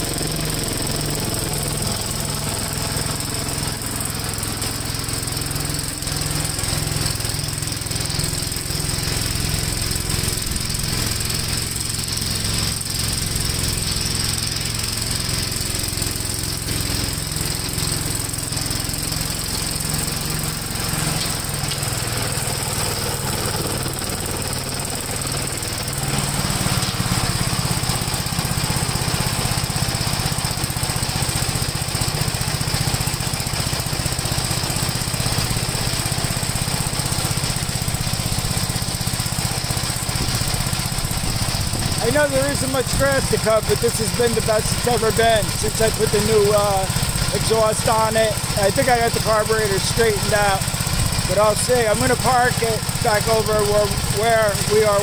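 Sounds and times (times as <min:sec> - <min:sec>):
mower deck cutting grass: 0:00.0 - 0:55.0
walk-behind tractor engine running: 0:00.0 - 0:55.0.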